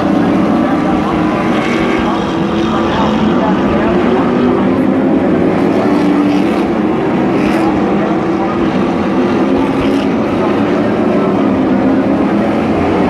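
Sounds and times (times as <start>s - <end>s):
racing truck engines: 0.0s - 13.0s.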